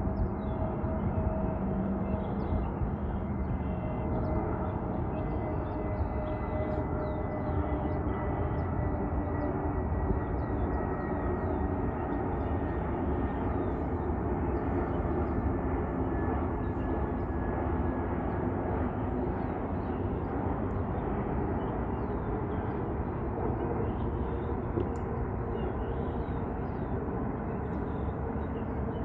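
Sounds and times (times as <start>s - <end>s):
jet engines flying by: 0.0s - 29.0s.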